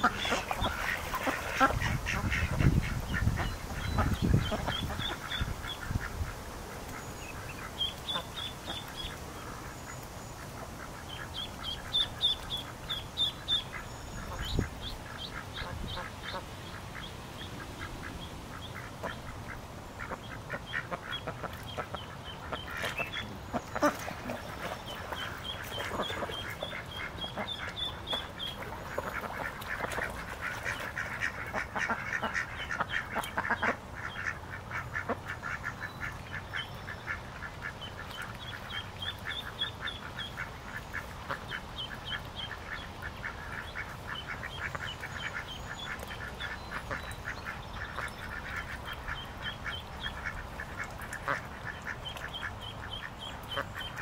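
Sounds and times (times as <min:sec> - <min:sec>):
ducks and geese calling: 0:00.0 - 0:54.0.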